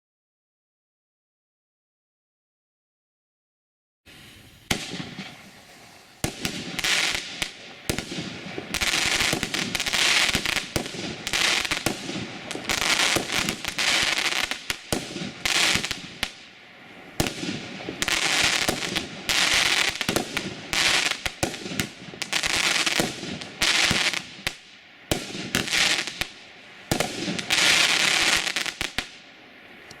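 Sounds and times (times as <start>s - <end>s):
firework cake bursts: 4.1s - 29.2s
hissing crackle: 4.1s - 30.0s.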